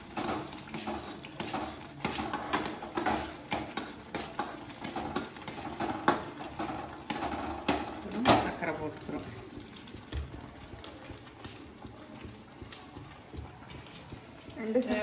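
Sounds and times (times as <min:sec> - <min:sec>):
spoon stirring in metal pan: 0:00.0 - 0:15.0.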